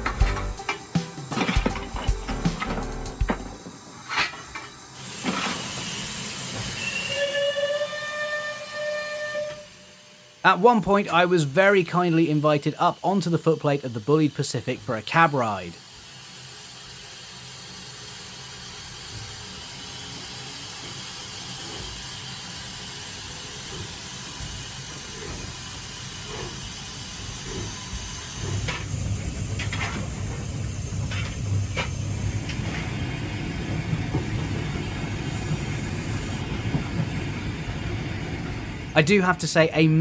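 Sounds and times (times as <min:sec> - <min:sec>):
steam locomotive hissing: 0:00.0 - 0:40.0.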